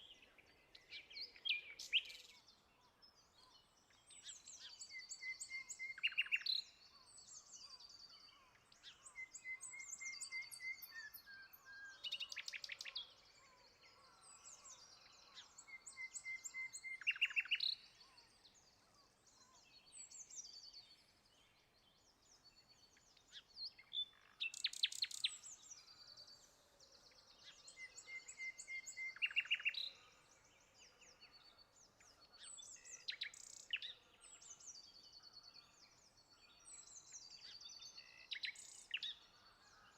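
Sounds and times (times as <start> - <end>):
songbirds singing with buzzy trill: 0.0 - 39.9.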